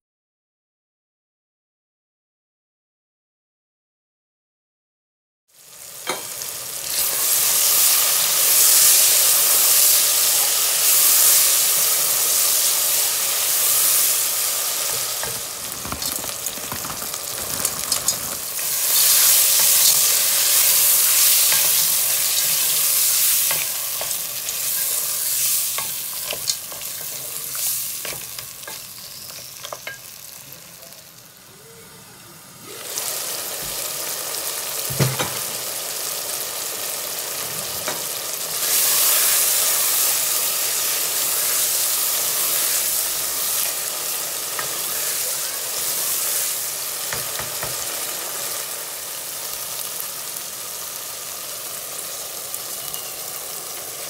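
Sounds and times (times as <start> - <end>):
food sizzling in hot oil: 5.5 - 31.7, 32.4 - 54.0.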